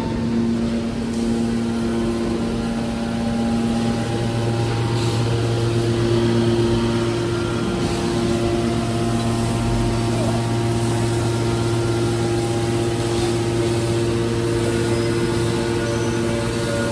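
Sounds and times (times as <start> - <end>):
machine hum: 0.0 - 16.9.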